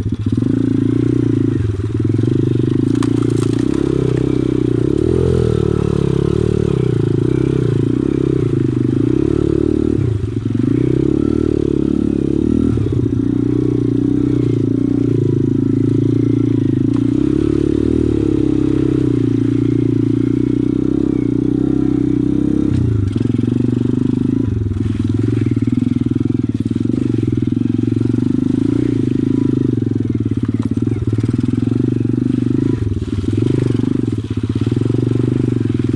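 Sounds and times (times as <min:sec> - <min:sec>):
pit bike engine running: 0:00.0 - 0:35.9.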